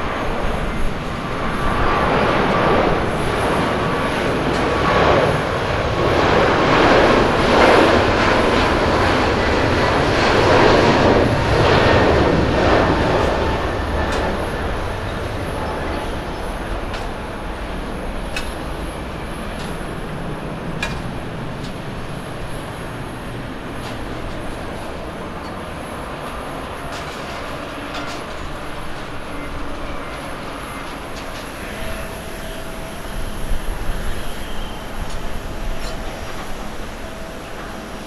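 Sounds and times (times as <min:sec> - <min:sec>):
jet airliner takeoff roll: 0:00.0 - 0:38.0
jet engines roaring: 0:00.0 - 0:38.0.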